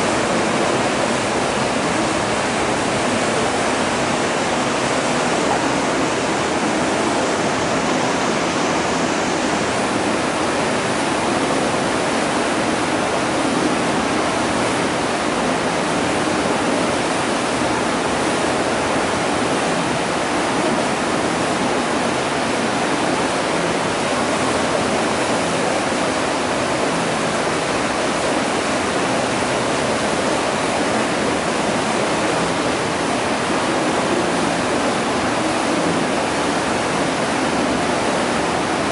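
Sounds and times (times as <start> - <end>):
water rushing through filter: 0.0 - 38.9.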